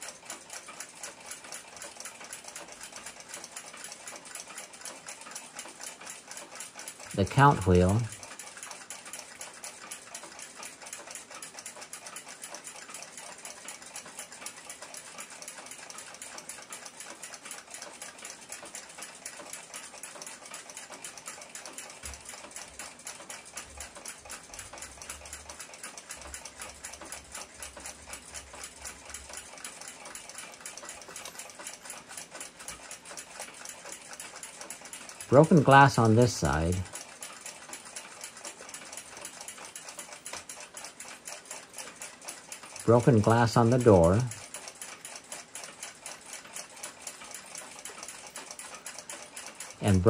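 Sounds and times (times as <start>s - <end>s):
clock ticking rapidly: 0.0s - 50.0s.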